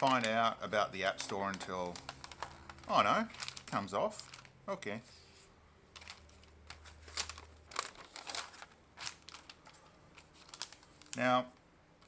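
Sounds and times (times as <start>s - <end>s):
paper crinkling and rustling: 0.0s - 4.6s, 5.9s - 11.6s.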